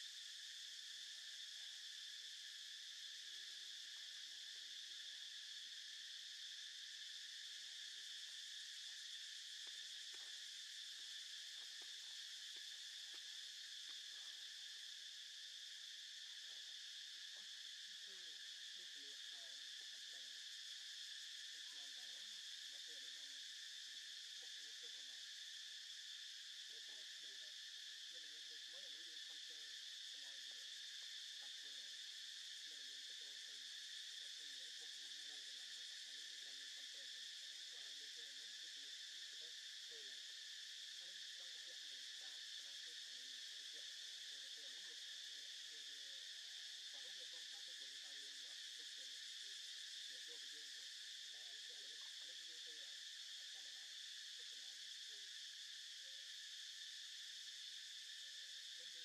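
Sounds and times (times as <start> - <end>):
faint low irregular sounds: 0.0 - 59.0
insect chorus drone: 0.0 - 59.0.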